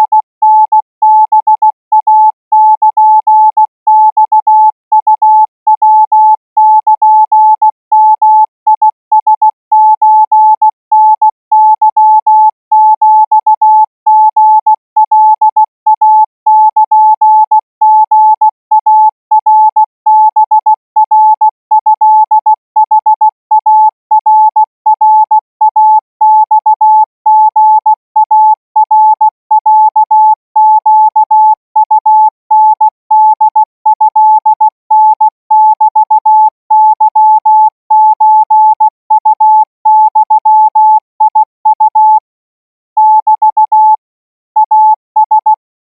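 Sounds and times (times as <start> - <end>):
morse code beeps: 0.0 - 42.3, 43.0 - 44.0, 44.6 - 45.6.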